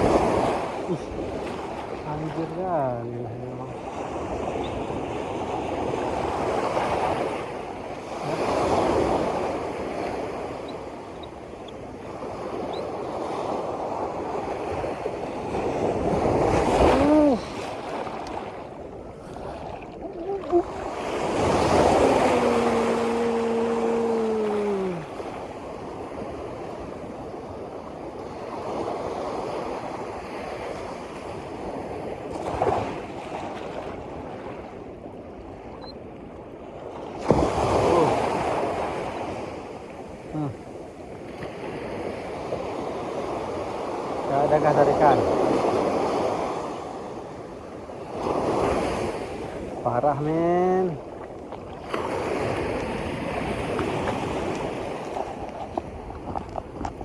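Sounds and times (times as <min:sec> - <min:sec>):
wind on microphone: 0:00.0 - 0:44.1, 0:50.5 - 0:57.0
sea waves washing: 0:00.0 - 0:57.0.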